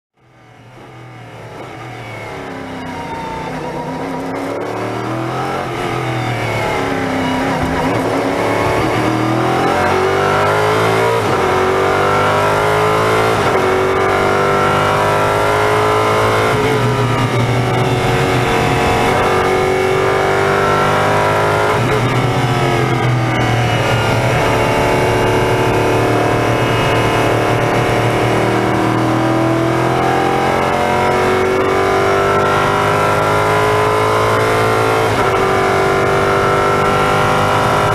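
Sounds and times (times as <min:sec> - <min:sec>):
wind and tyre noise: 0:00.4 - 0:37.9
race car engine revving: 0:00.7 - 0:37.9.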